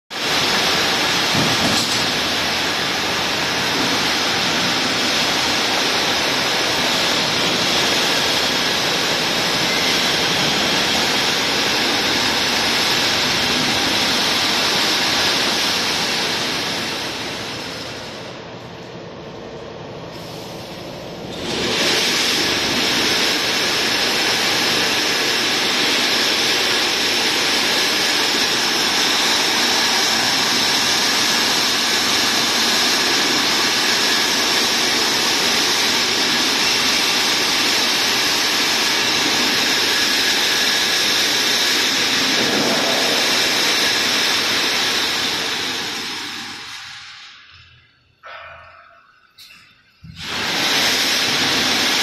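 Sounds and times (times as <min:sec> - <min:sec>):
machinery whirring hiss: 0:00.2 - 0:19.0, 0:20.0 - 0:52.0.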